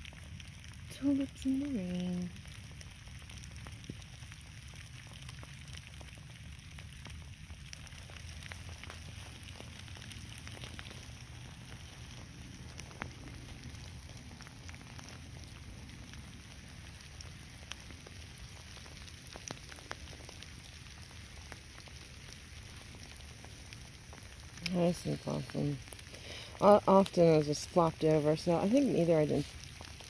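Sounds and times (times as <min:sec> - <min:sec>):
light rain hiss: 0:00.0 - 0:30.0
low steady rumble: 0:00.0 - 0:30.0.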